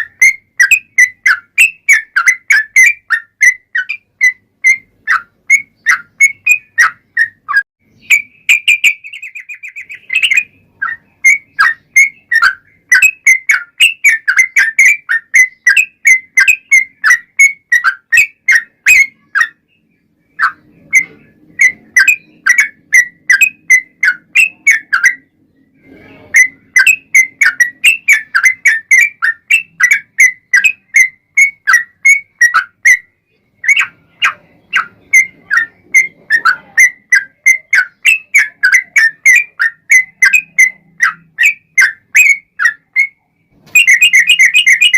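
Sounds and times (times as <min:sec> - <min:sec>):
bird singing whistled notes: 0:00.0 - 0:44.9.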